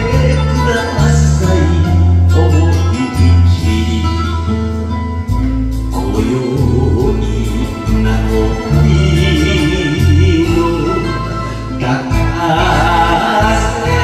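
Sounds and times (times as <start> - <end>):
man singing into microphone: 0.0 - 4.9, 5.9 - 14.0
karaoke backing track with bass: 0.0 - 14.0.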